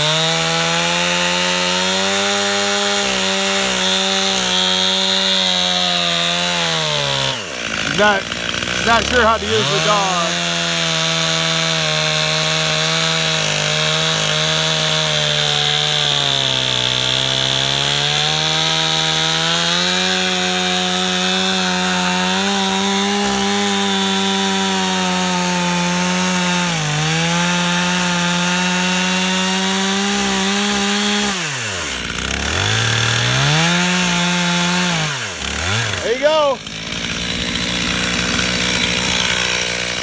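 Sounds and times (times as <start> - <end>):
chainsaw cutting at high revs: 0.0 - 40.0.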